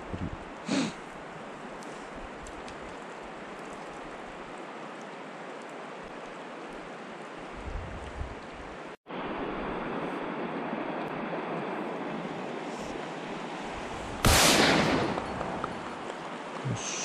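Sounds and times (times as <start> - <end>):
stream current rushing: 0.0 - 17.0.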